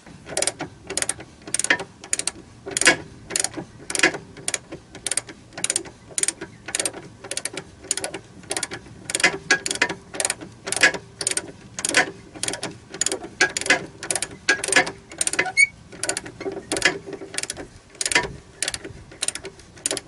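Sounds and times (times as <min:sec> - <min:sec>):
ratchet wrench clicking: 0:00.4 - 0:20.0.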